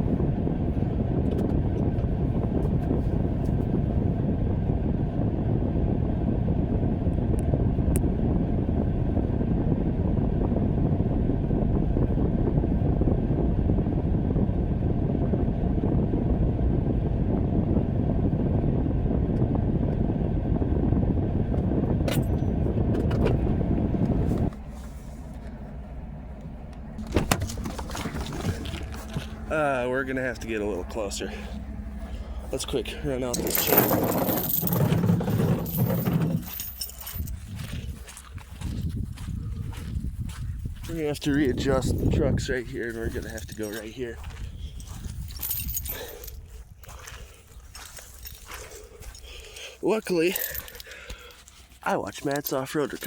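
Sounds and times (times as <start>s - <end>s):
truck engine and road noise: 0.0s - 53.0s.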